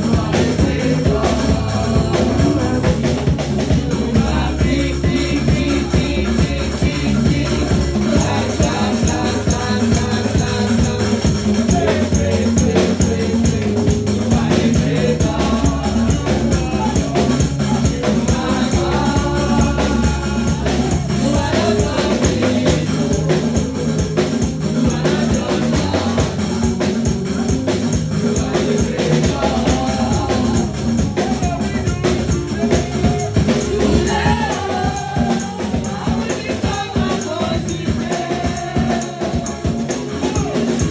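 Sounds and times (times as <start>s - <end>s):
drums: 0.0s - 40.9s
gospel singing voices: 0.0s - 40.9s
shaking hand percussion: 0.0s - 40.9s
steady bass: 0.0s - 40.9s.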